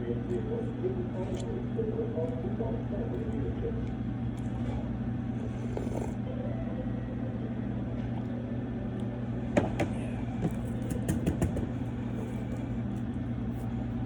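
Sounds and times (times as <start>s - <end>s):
restaurant background hum: 0.0s - 14.0s.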